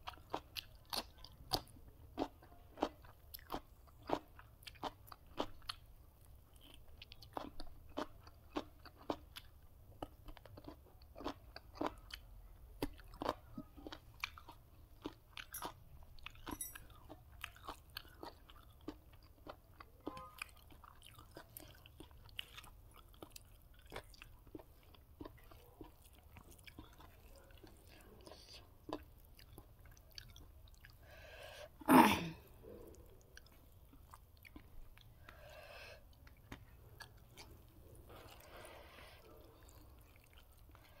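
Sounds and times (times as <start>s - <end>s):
person chewing crunchy food: 0.0s - 41.0s.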